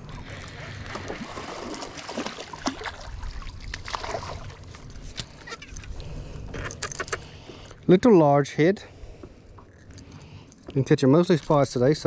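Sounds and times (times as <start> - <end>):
water splashing and sloshing: 0.0 - 8.0, 8.9 - 12.0.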